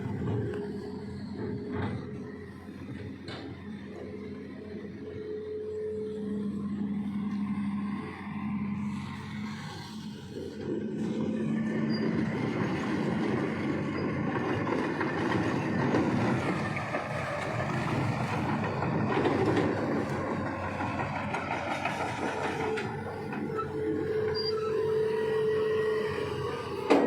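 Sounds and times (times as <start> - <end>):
heavy vehicle rumbling over gravel: 0.0 - 4.4, 8.4 - 27.0.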